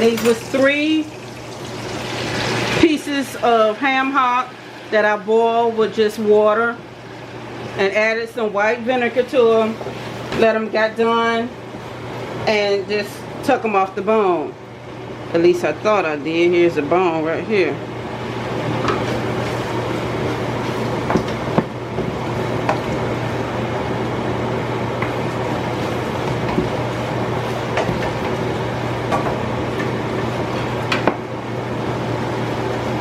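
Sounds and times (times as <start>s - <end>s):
steady hum and hiss: 0.0s - 33.0s.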